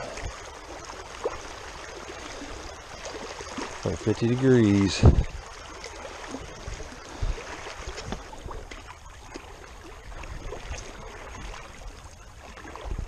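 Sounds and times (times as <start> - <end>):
creek water running over stones: 0.0 - 13.0
legs wading through water: 0.0 - 13.0.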